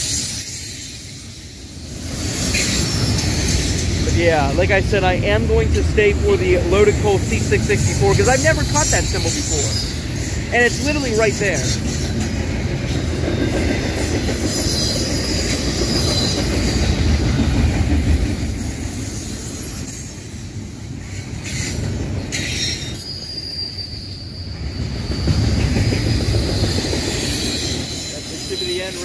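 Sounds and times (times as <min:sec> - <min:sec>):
high wheel squeal: 0:00.0 - 0:12.2, 0:13.7 - 0:17.2, 0:21.4 - 0:29.0
wheels rumbling on rail: 0:00.0 - 0:29.0.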